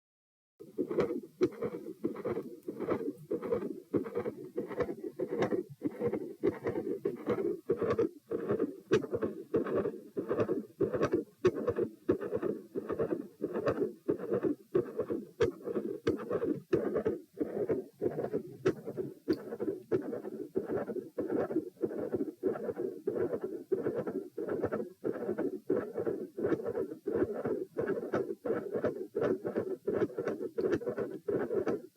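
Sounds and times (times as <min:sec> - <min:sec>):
continuous heart murmur: 0:00.6 - 0:31.9
heartbeat through stethoscope: 0:00.6 - 0:31.9.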